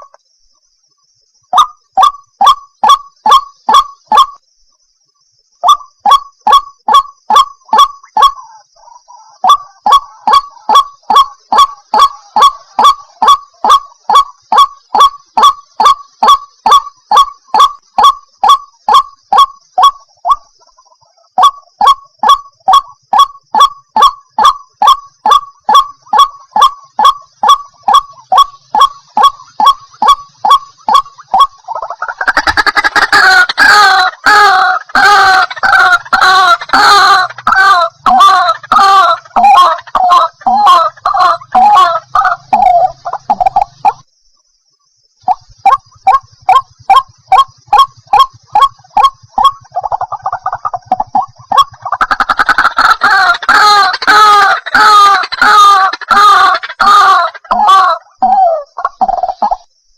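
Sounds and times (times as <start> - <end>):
waterhen calling wak: 5.6 - 44.0, 45.3 - 59.6.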